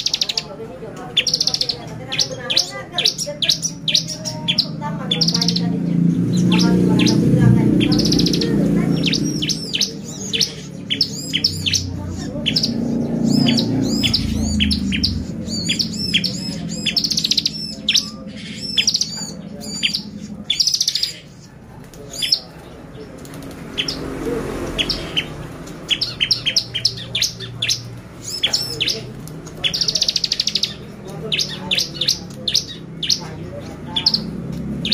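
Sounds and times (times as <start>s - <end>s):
bird singing high chirps: 0.0s - 0.5s, 1.1s - 21.5s, 23.8s - 34.9s.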